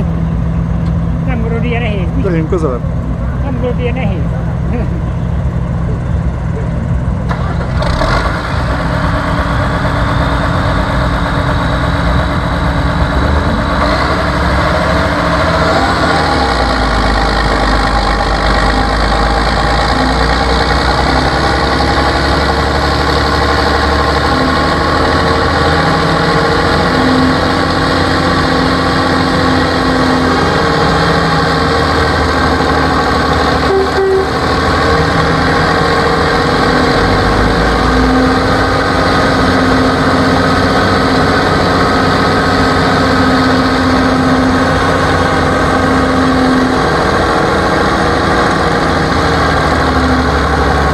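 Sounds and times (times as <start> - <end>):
tractor diesel engine running hard: 0.0 - 50.9.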